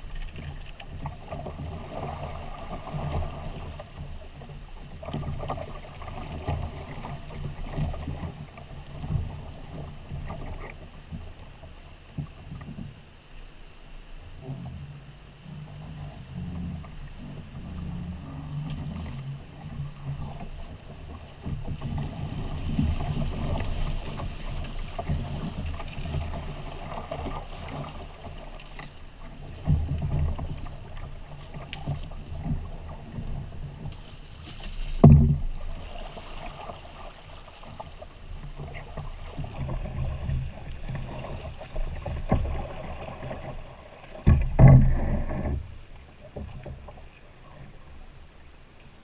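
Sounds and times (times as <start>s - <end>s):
floodwater rushing and splashing: 0.0s - 13.2s, 14.2s - 48.2s.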